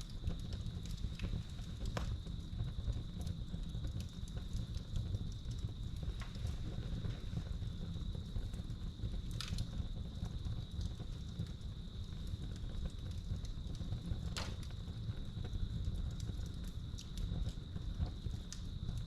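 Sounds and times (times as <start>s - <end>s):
sharp fire pops: 0.0s - 19.0s
wood fire crackling: 0.0s - 19.0s.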